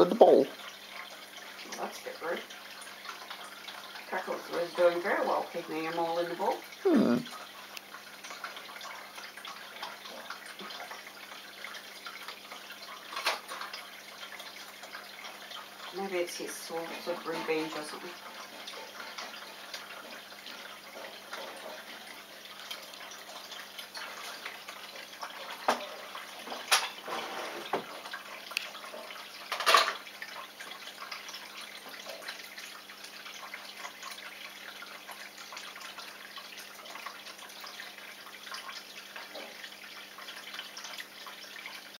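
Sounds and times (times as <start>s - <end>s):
water trickling and splashing: 0.0s - 42.0s.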